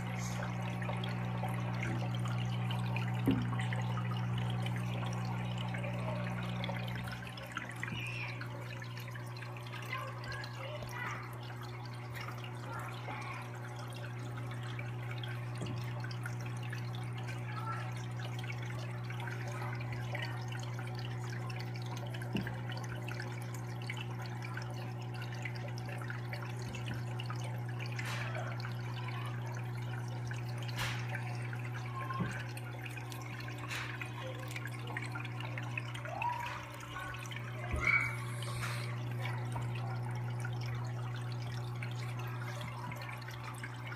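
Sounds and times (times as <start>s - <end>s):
aquarium filter hum: 0.0s - 43.9s
water trickling into tank: 0.0s - 43.9s.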